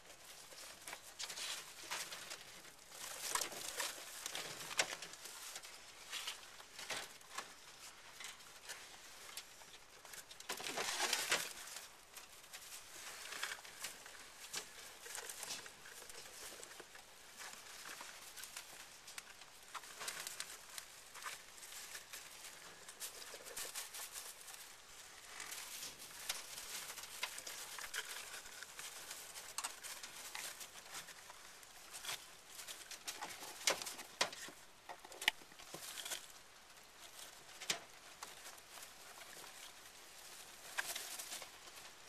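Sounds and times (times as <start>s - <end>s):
hay rustling and crinkling: 0.0s - 7.9s, 8.9s - 42.0s.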